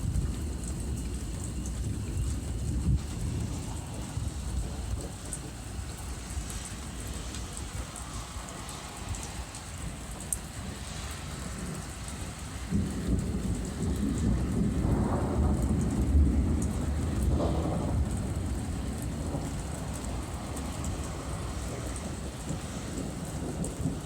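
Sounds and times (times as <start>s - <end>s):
rolling thunder: 0.0s - 24.0s
steady falling rain: 0.0s - 24.0s.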